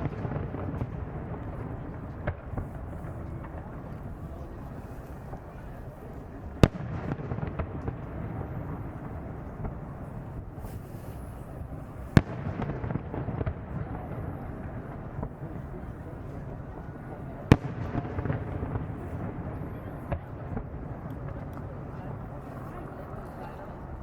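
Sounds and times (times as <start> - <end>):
small firework pops: 0.0 - 23.6
low rumble of fireworks: 0.0 - 24.0.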